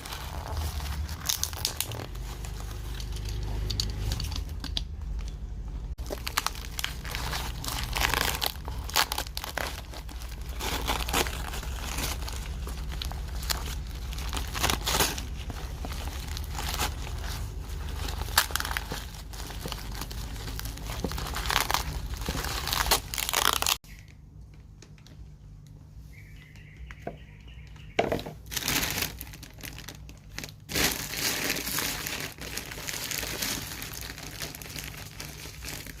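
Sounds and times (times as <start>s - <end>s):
packaging rustling and ripping: 0.0s - 4.8s, 5.9s - 23.8s, 28.4s - 36.0s.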